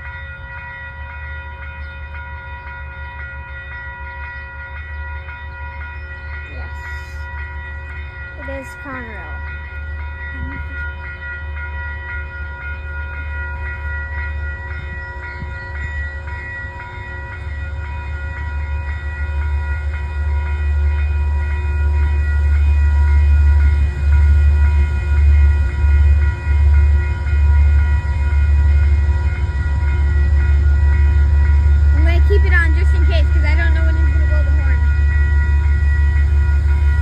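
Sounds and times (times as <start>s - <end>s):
diesel locomotive engine rumble: 0.0s - 37.0s.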